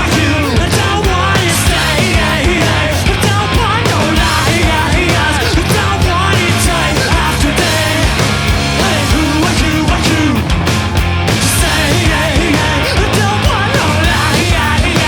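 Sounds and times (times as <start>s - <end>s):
bass guitar: 0.0s - 15.0s
drum beat: 0.0s - 15.0s
electric guitars: 0.0s - 15.0s.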